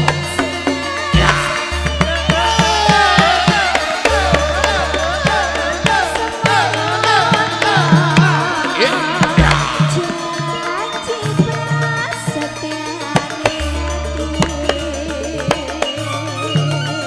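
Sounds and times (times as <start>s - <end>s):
hand drum strokes: 0.0s - 16.0s
band playing: 0.0s - 17.0s
sustained bass notes: 0.0s - 17.0s
woman singing: 0.0s - 17.0s.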